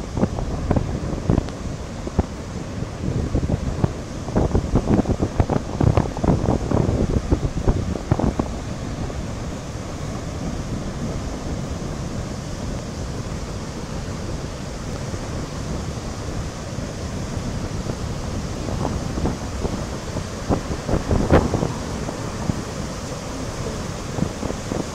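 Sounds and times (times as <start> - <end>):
water rushing over spillway: 0.0 - 24.9
wind buffeting microphone: 0.0 - 24.9.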